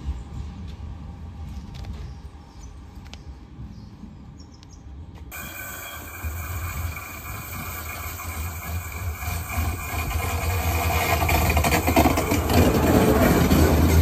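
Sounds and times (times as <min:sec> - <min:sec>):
tram rumble: 0:00.0 - 0:14.0.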